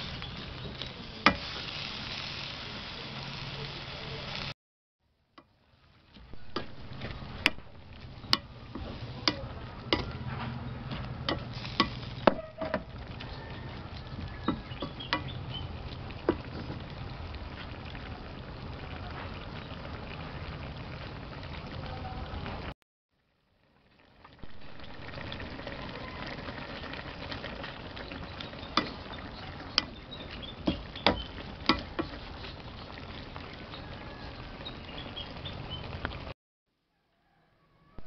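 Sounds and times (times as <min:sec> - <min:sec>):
sauce sizzling: 0:00.0 - 0:04.6, 0:05.7 - 0:21.9, 0:22.5 - 0:36.4.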